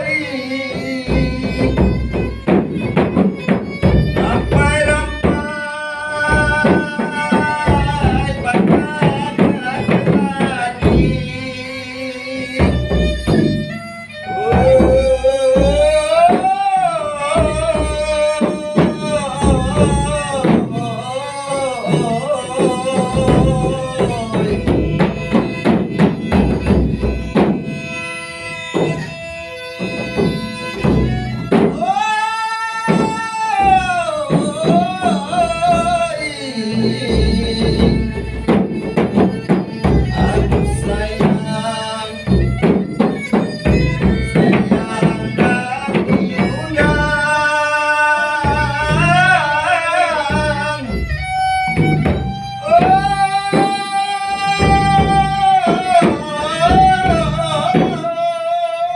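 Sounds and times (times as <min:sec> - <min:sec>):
person singing folk song: 0:00.0 - 0:27.9, 0:30.9 - 0:58.9
hand drum strokes: 0:00.0 - 0:58.9.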